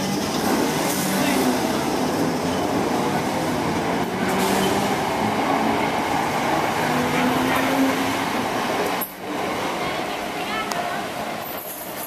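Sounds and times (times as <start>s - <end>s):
train wheels running on rails: 0.0s - 12.0s.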